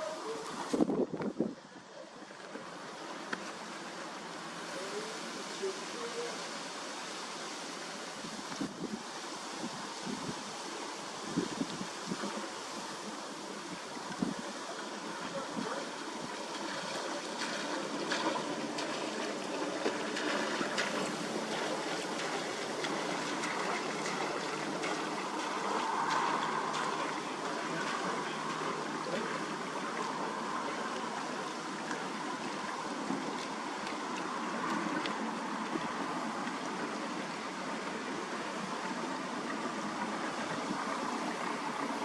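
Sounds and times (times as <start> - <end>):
faint boat engine: 0.0 - 42.0
water wash from passing boat: 0.0 - 42.0.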